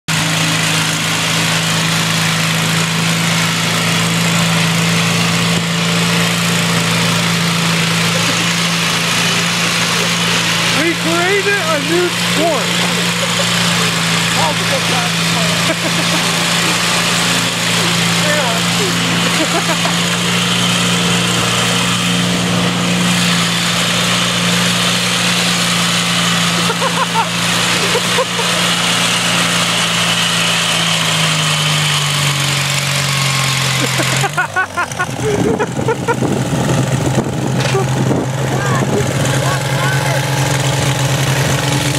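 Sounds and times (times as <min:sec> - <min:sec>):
lawn tractor engines running: 0:00.0 - 0:41.9.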